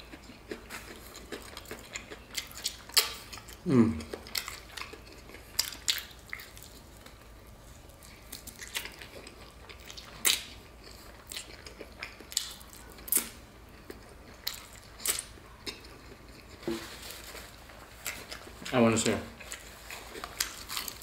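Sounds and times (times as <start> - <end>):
chewing crispy fried food: 0.0 - 21.0.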